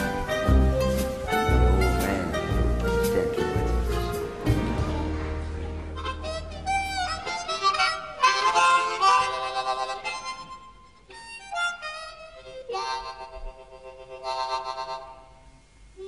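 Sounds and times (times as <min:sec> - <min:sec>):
solo instrumental melody: 0:00.0 - 0:13.5
quiet musical backing: 0:00.0 - 0:16.0.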